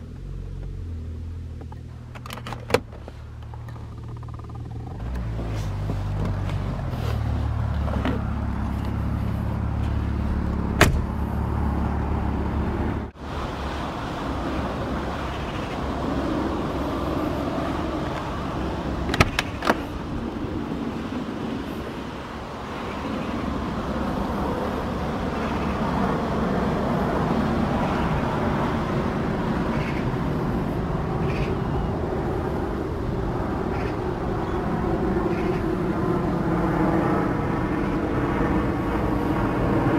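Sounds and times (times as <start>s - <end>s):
low vehicle rumble: 0.0s - 39.9s.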